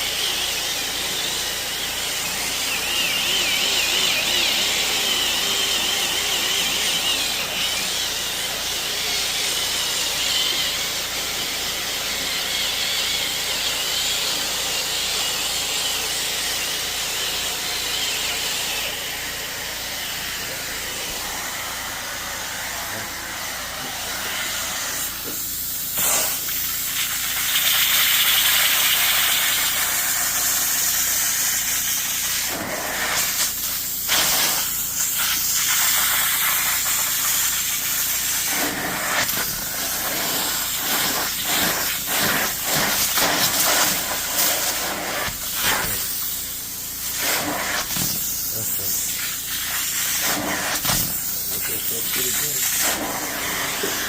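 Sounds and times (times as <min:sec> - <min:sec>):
cleaning machine hissing: 0:00.0 - 0:54.0.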